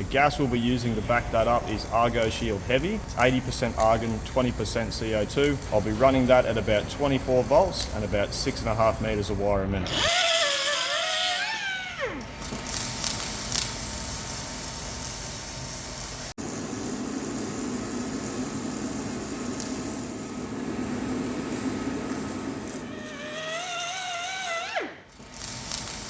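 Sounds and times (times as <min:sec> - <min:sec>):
welding arc hissing: 0:00.0 - 0:26.0.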